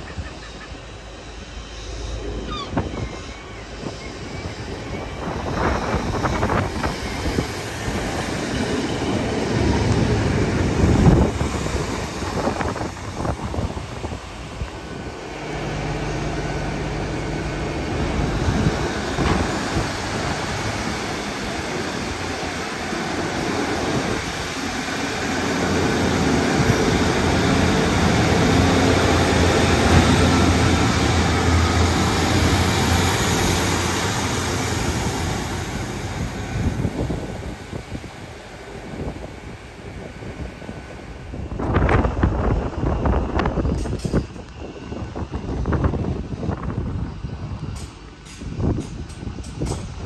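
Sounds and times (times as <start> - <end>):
diesel train engine humming: 0.0 - 50.0.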